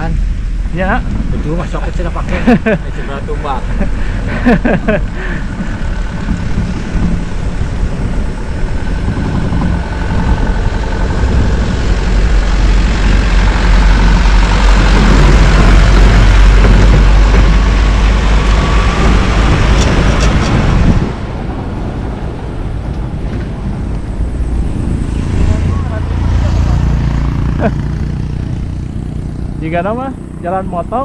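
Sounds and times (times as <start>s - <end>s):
rough road rumble: 0.0s - 31.0s
wind rushing over microphone: 0.0s - 31.0s.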